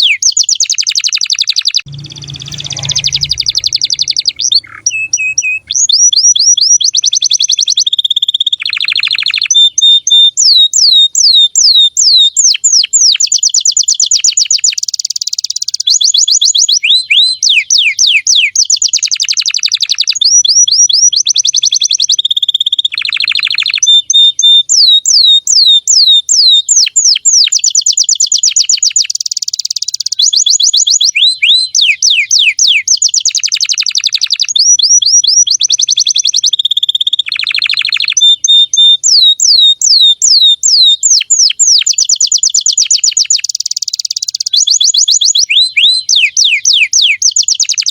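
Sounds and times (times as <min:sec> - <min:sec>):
canary singing: 0:00.0 - 0:47.9.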